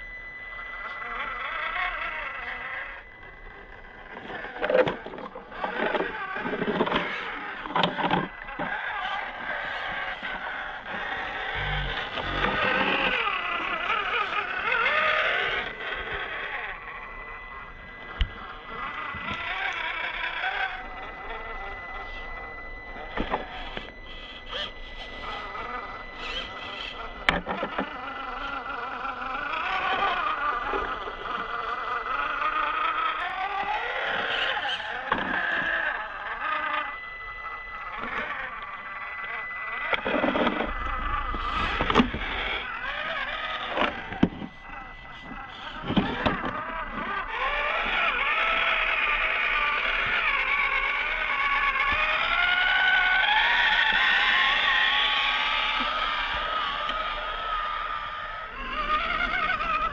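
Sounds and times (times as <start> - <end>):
electric motor and gears whining: 0.0 - 59.9.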